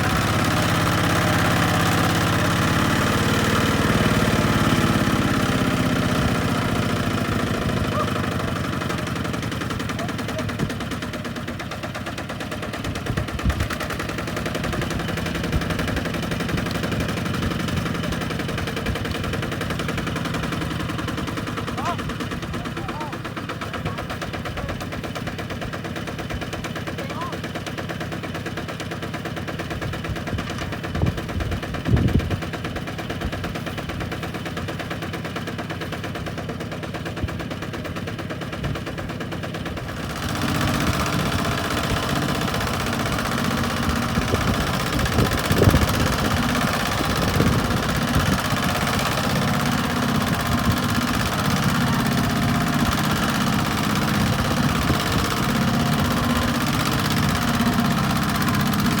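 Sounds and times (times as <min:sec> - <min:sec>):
tractor diesel engine chugging: 0:00.0 - 0:59.0.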